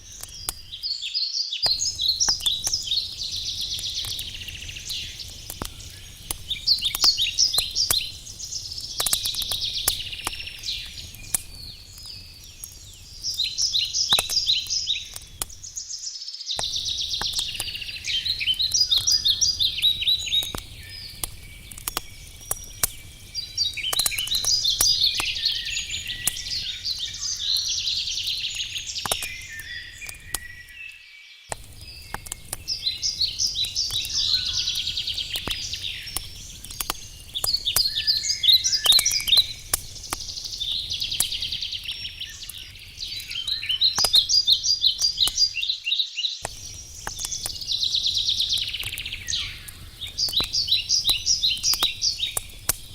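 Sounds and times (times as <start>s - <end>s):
campfire crackling: 0.0s - 1.0s, 1.6s - 16.0s, 16.6s - 30.8s, 31.5s - 52.9s
songbirds singing: 0.0s - 52.9s.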